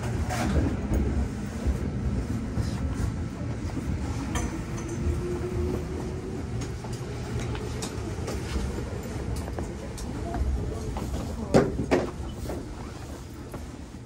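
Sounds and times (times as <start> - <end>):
train low rumble: 0.0 - 14.0.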